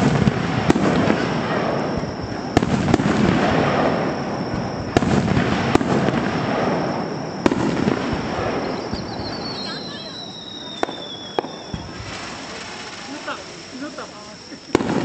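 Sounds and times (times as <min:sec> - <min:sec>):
firework shells bursting: 0:00.0 - 0:15.0.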